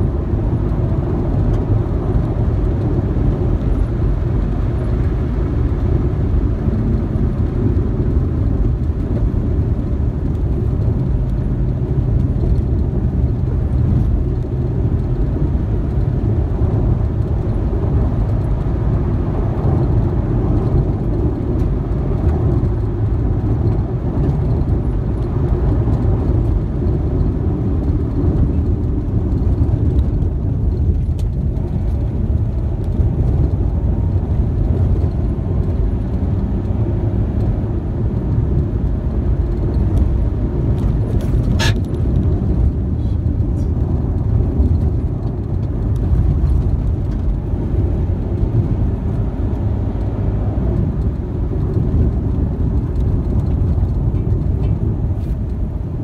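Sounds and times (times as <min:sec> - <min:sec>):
car driving on dirt road: 0:00.0 - 0:56.0.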